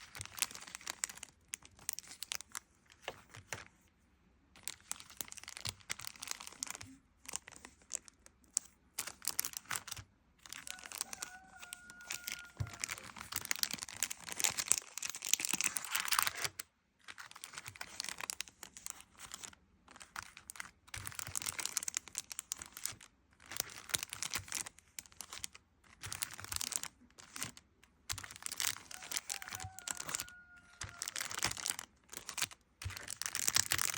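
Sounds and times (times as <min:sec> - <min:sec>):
paper crinkling and tearing: 0:00.0 - 0:03.7, 0:04.6 - 0:33.9.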